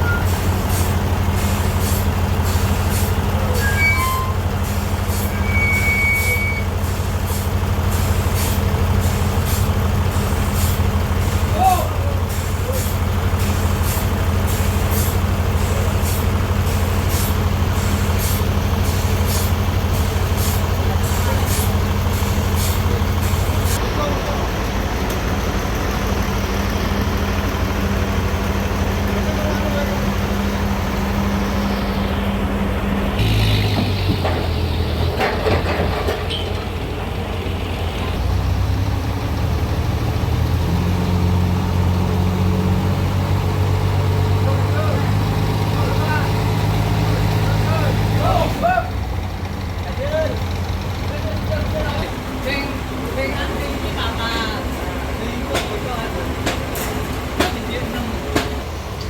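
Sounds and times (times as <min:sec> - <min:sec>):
sawmill machinery engine hum: 0:00.0 - 0:59.0.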